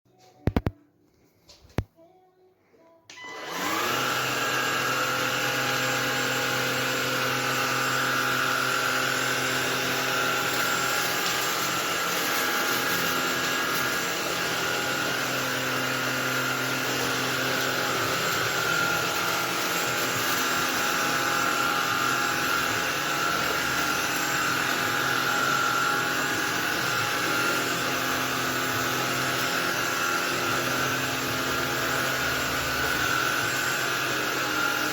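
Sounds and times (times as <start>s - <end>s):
vacuum cleaner motor whining: 3.1s - 34.9s.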